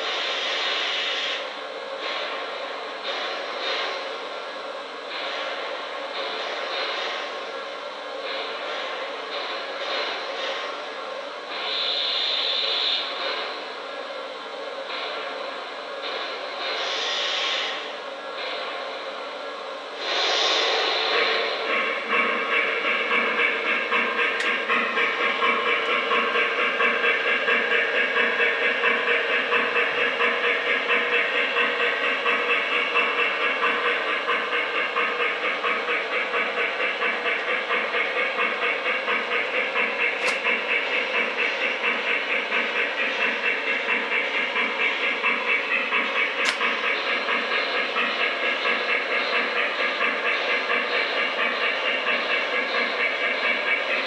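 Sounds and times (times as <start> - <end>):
model steam locomotive chuffing: 0.0 - 54.0.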